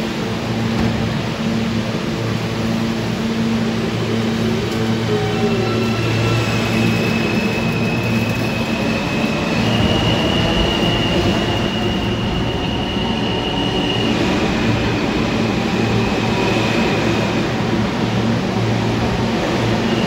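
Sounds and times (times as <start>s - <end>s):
subway train wheel rumble: 0.0s - 20.0s.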